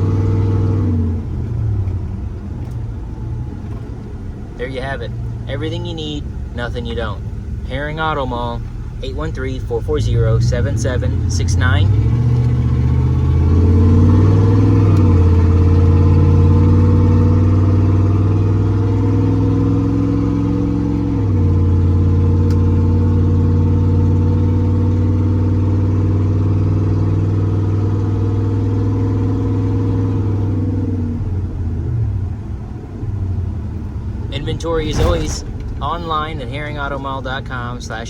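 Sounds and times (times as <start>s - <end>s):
truck engine accelerating: 0.0s - 38.0s.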